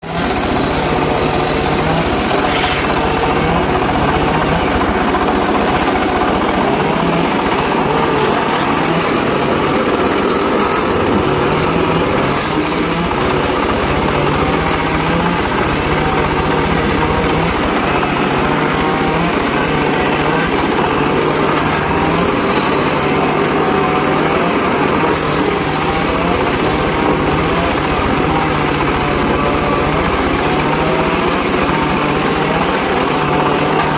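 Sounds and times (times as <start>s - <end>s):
circular saw cutting wood: 0.0s - 33.9s.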